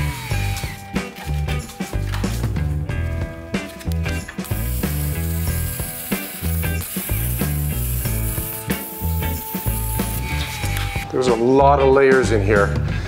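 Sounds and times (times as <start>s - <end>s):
music with bass line: 0.0s - 13.0s.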